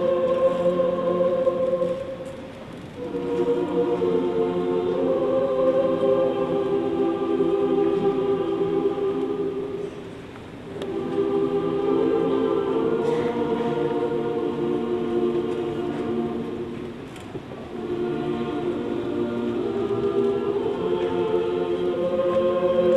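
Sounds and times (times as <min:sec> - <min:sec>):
choir singing long notes: 0:00.0 - 0:22.9.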